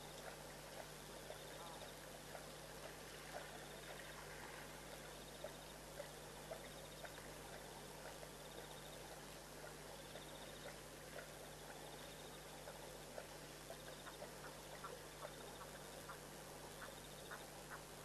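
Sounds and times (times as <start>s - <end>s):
animals lapping water: 0.0s - 18.0s
steady low hum: 0.0s - 18.0s.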